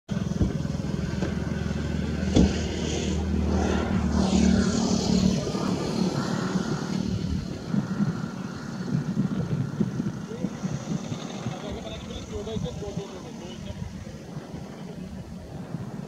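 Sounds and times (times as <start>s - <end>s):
vehicle engine humming: 0.1s - 15.5s.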